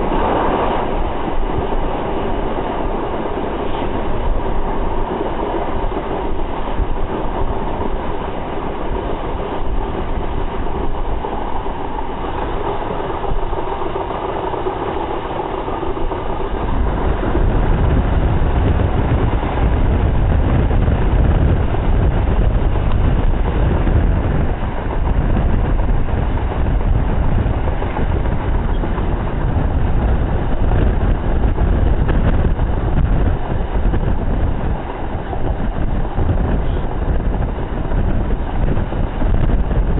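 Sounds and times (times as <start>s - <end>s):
heavy low rumble: 0.0s - 39.9s
train wheels on rails: 0.0s - 39.9s.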